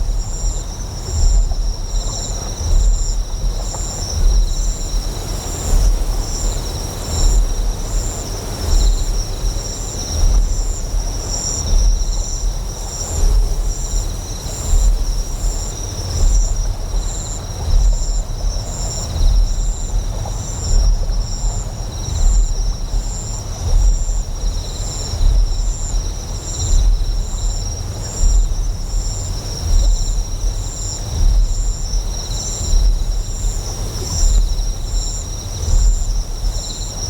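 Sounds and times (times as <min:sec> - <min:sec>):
flowing water: 0:00.0 - 0:37.0
insect chirping: 0:00.0 - 0:37.0.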